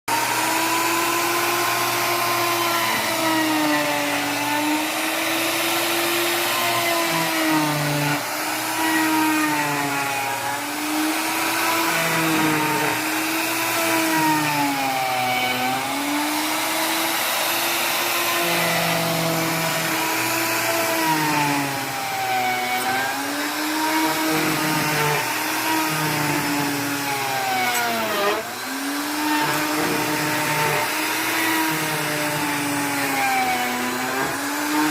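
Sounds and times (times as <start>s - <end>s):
electric wood planer whining: 0.0s - 34.9s.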